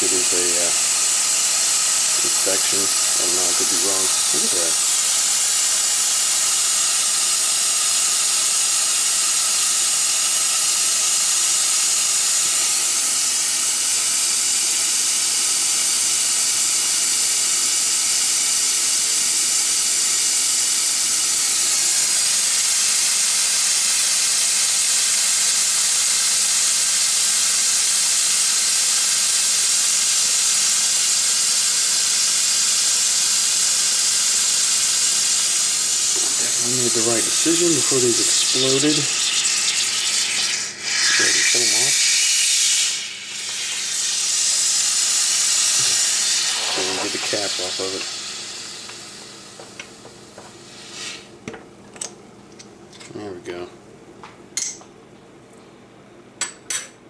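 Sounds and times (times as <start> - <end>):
gas and foam hissing from bottle: 0.0 - 49.8, 50.6 - 51.3.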